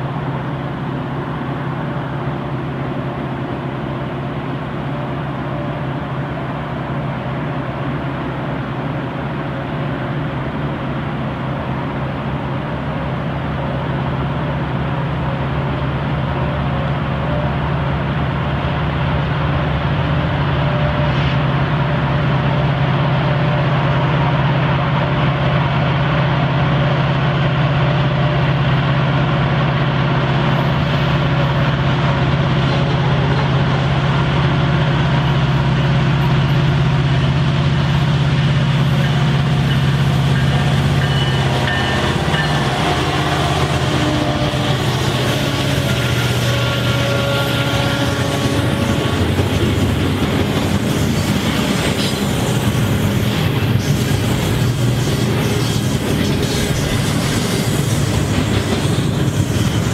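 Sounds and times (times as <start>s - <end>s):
diesel locomotive engine drone: 0.0s - 59.9s
railcars rumbling and clattering: 0.0s - 59.9s.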